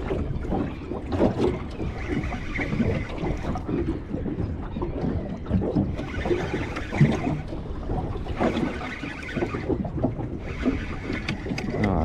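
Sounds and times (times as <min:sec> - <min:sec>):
water sloshing around boat: 0:00.0 - 0:12.0
wind buffeting microphone: 0:00.0 - 0:12.0.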